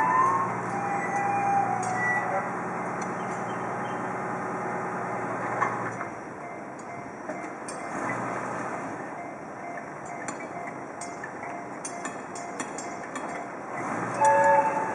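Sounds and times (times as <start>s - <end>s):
wheels clacking over rail joints: 0.0s - 14.9s
wheels rumbling on rail: 0.0s - 14.9s.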